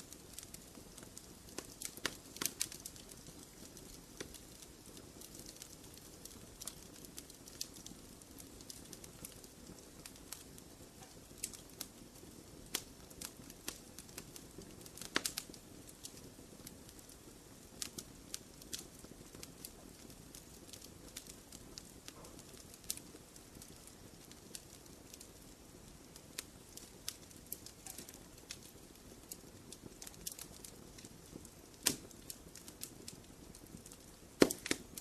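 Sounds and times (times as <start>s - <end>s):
fire popping and snapping: 0.0s - 35.0s
wood fire crackling: 0.0s - 35.0s.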